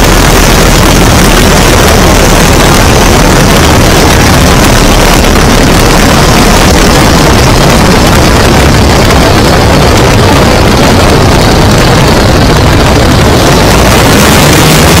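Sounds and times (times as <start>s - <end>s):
plane engine and propeller: 0.0s - 15.0s
wind rushing over camera: 0.0s - 15.0s.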